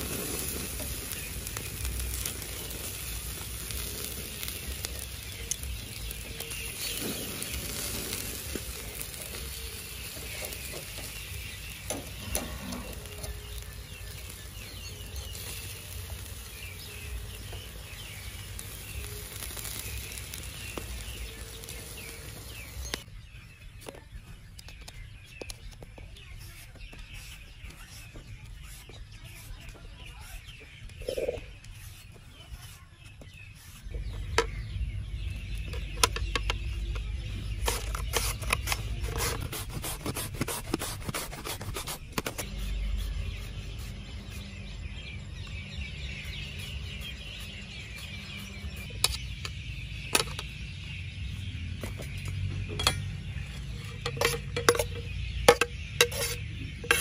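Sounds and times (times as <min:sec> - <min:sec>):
birds calling: 0:00.0 - 0:57.0
steady outdoor background: 0:00.0 - 0:57.0.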